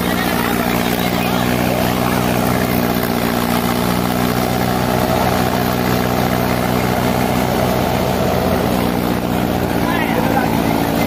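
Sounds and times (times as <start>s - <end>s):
thresher drum running: 0.0s - 11.0s
tractor diesel engine under load: 0.0s - 11.0s.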